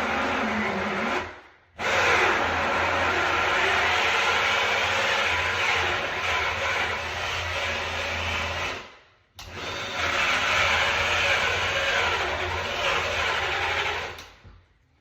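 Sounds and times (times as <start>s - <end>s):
power drill with hole saw: 0.0s - 14.4s.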